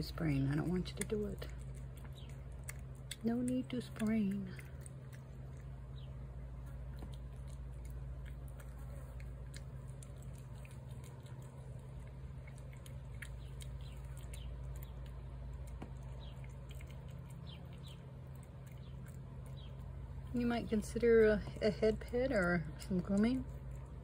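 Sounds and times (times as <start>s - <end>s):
cat chewing and lapping food: 0.0s - 24.0s
steady low hum: 0.0s - 24.0s.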